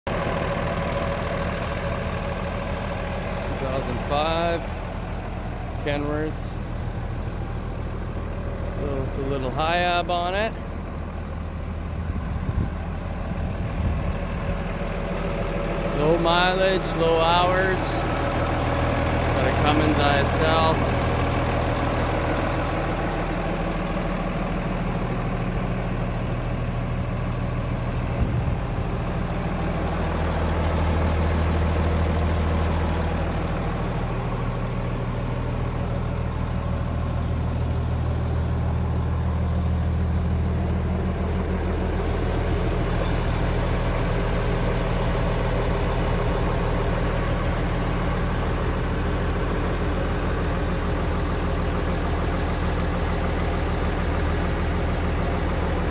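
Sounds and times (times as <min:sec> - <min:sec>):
diesel truck engine idling: 0:00.1 - 0:55.9.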